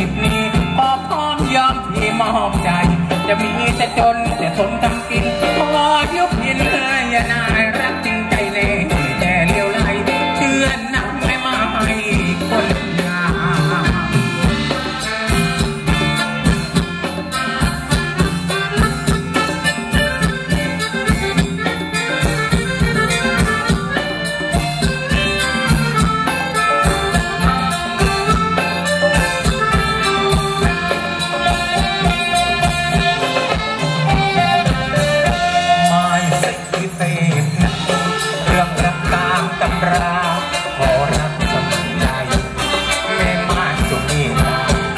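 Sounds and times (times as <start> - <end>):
drum kit beat: 0.0 - 44.9
electric guitars: 0.0 - 44.9
live dance band playing: 0.0 - 44.9.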